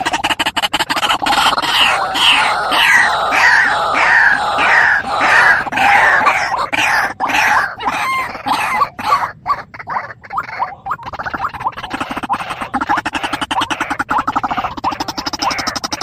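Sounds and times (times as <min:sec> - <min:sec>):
bird calling harshly: 0:00.0 - 0:16.0.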